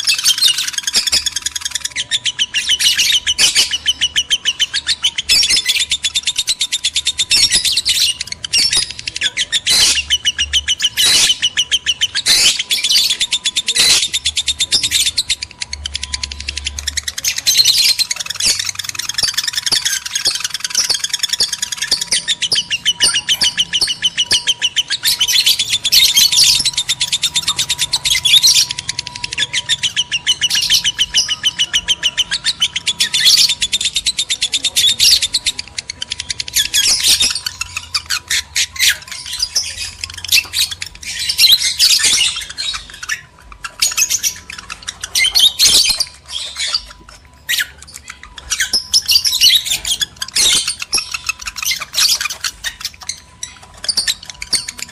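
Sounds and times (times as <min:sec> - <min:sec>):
lovebirds chattering and squawking: 0:00.0 - 0:54.9.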